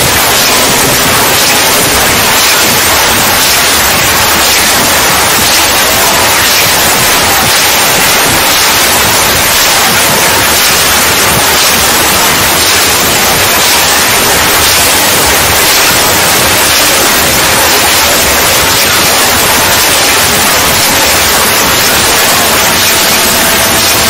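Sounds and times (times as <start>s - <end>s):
loud static hiss: 0.0s - 24.0s.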